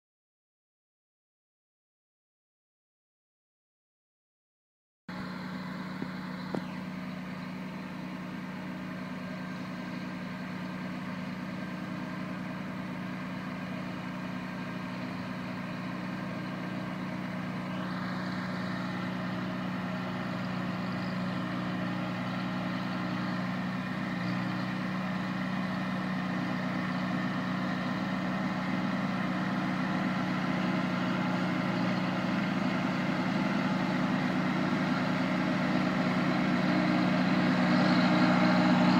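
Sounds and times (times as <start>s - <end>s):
tractor diesel engine running: 5.1s - 38.9s.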